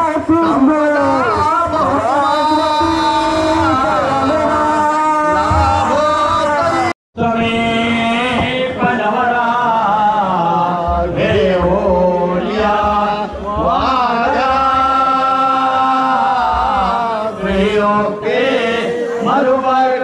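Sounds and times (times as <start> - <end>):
person chanting: 1.1 - 20.0.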